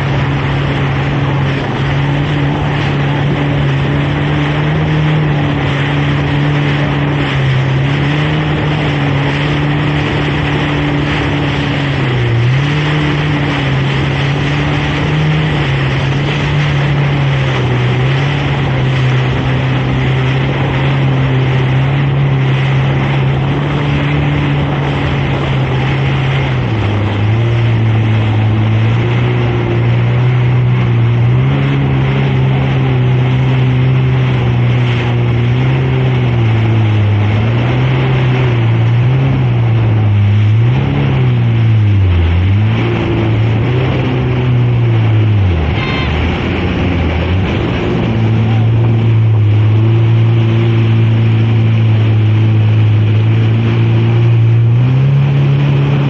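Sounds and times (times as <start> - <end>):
jet ski engine running: 0.0 - 56.0.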